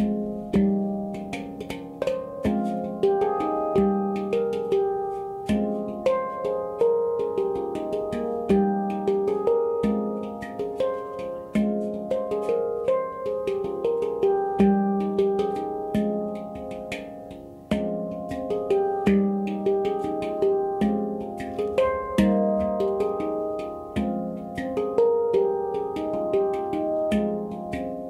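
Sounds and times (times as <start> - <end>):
handpan notes ringing: 0.0 - 28.0
light hand taps on handpan: 0.0 - 28.0.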